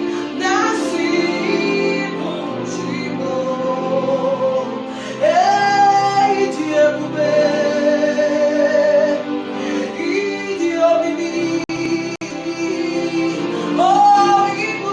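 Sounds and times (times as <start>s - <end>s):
person singing gospel: 0.0s - 14.9s
sustained accompaniment: 0.0s - 14.9s.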